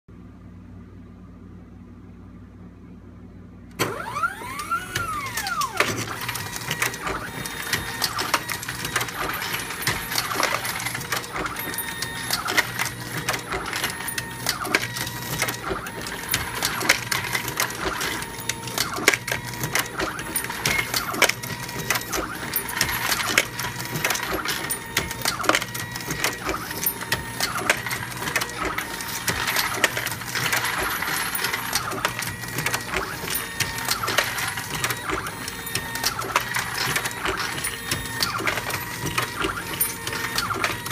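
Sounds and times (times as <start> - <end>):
motor whine: 3.7 - 40.9
reloading press clattering: 3.8 - 40.9.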